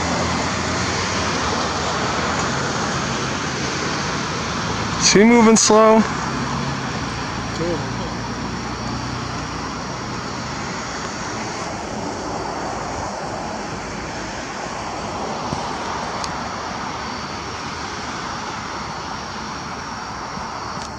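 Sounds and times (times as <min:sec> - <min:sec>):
distant airplane roar: 0:00.0 - 0:20.9
steady high hiss: 0:00.0 - 0:20.9.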